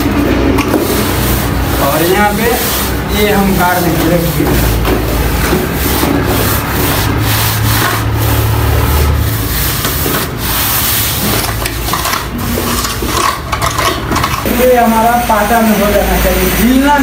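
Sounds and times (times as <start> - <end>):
straightedge scraping wet plaster: 0.4 - 17.0.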